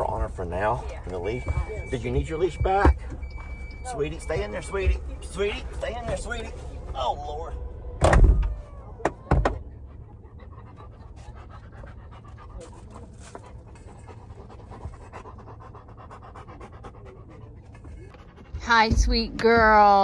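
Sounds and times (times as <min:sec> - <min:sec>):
dog panting: 0:00.0 - 0:07.0, 0:09.7 - 0:20.0.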